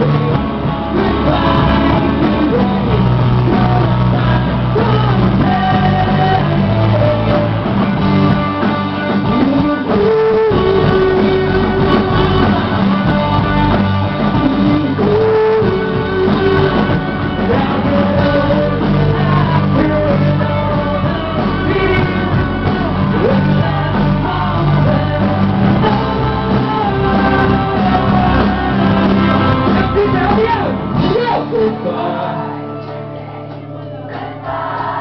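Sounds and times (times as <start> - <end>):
man singing: 0.0 - 33.4
live rock band playing: 0.0 - 35.0.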